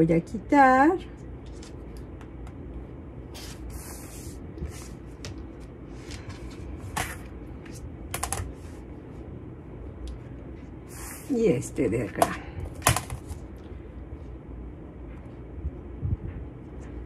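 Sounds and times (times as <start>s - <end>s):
low room noise: 0.0s - 17.0s.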